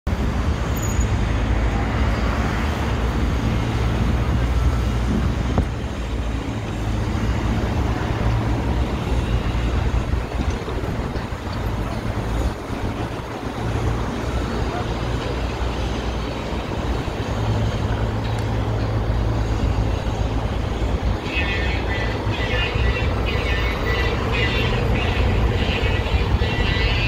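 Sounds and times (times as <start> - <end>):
construction machinery: 0.1 - 27.0
street traffic rumble: 0.1 - 27.0.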